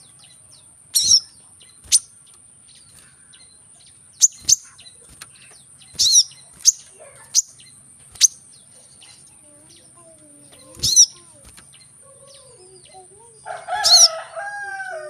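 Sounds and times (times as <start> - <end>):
sunbird calling: 0.0 - 15.0.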